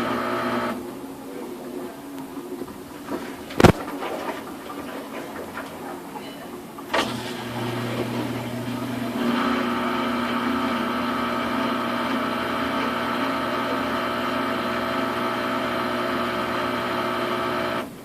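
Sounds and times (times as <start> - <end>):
washing machine spinning: 0.0 - 1.2, 2.0 - 18.0.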